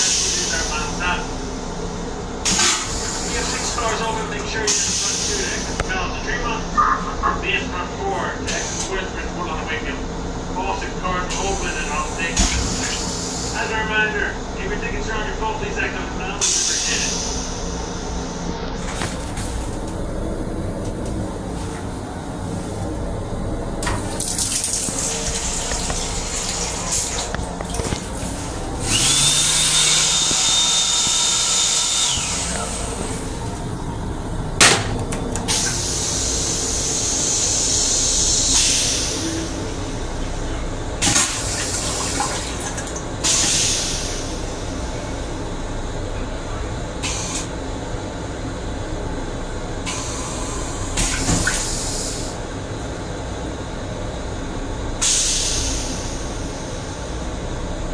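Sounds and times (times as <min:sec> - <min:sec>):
high whine with hum: 0:00.0 - 0:57.9
railcar rumble: 0:00.0 - 0:57.9.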